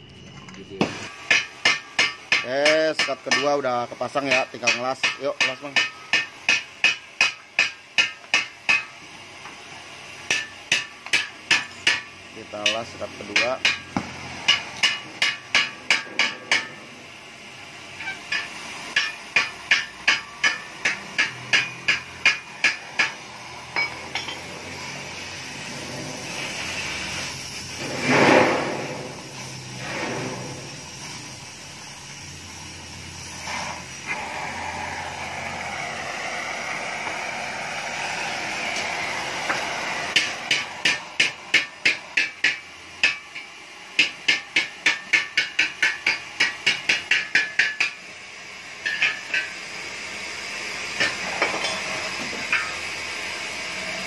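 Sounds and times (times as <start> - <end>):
gas welding torch hissing: 0.6 - 54.0.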